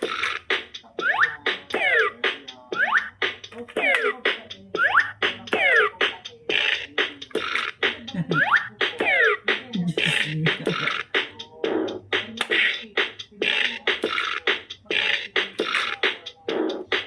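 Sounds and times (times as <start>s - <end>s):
toy playing beatboxed beat: 0.0s - 17.0s.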